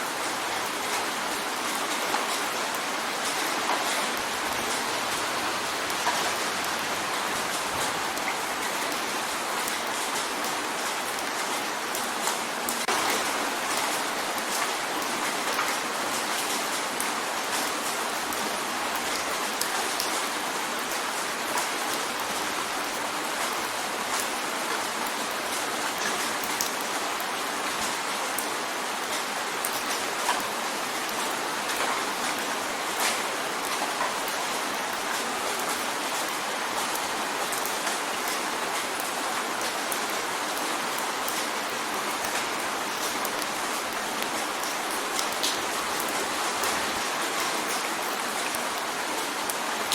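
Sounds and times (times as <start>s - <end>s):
rain drumming on a window: 0.0s - 49.9s.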